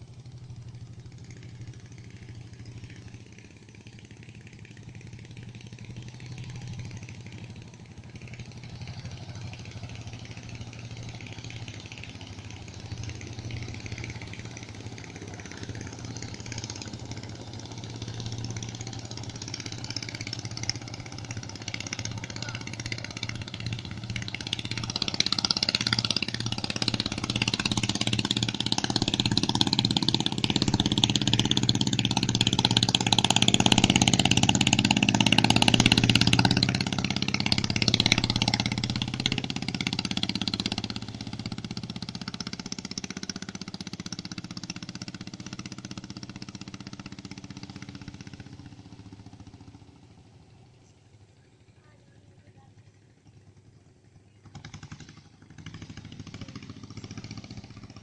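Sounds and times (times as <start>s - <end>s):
boat engine running: 0.0s - 49.8s.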